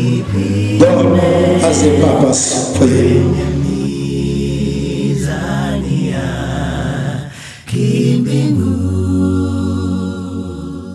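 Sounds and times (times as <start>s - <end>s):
unaccompanied voices singing: 0.0s - 10.9s.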